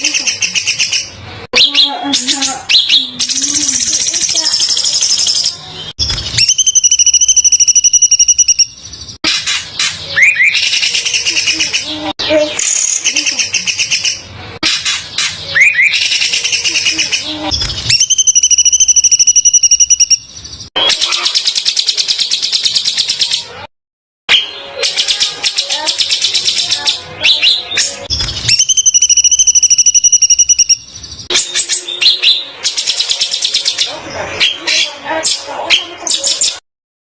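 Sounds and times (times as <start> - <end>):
songbird harsh repeated notes: 0.0 - 23.6, 24.3 - 33.8.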